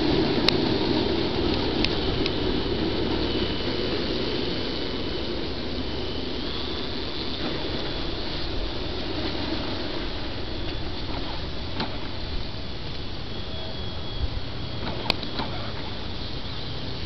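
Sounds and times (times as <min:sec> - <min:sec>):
model aircraft motor whine: 0:00.0 - 0:17.0
steady rushing noise: 0:00.0 - 0:17.0.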